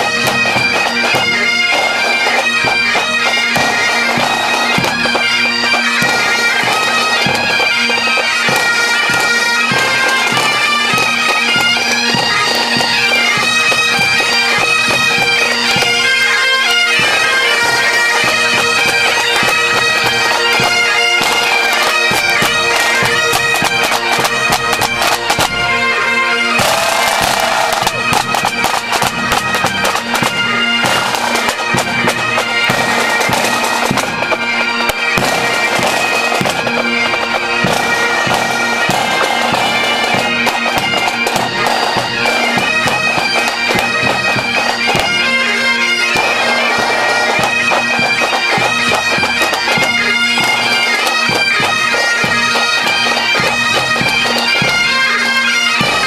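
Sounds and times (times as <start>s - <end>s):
bagpipes playing a march: 0.0s - 56.0s
drums beating: 0.0s - 56.0s.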